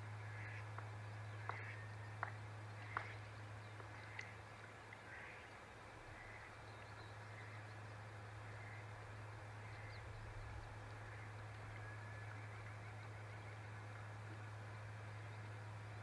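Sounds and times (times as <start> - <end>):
steady low hum: 0.0 - 16.0
faint bird calls: 0.2 - 16.0.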